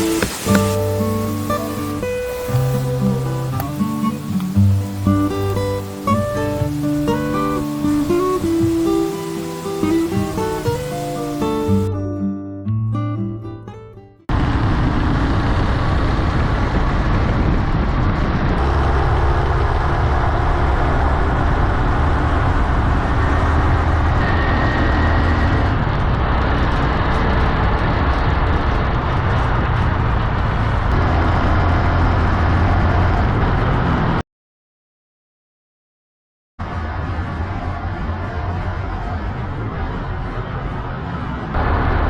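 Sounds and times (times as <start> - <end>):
wind rush: 0.0 - 11.9, 14.3 - 34.2, 36.6 - 42.0.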